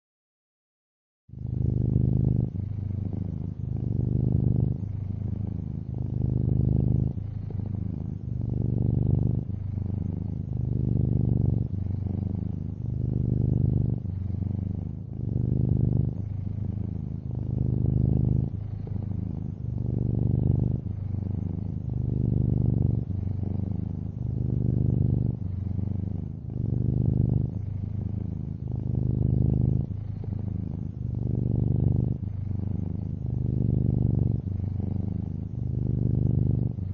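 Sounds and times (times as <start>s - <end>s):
cat purring: 1.3s - 36.9s.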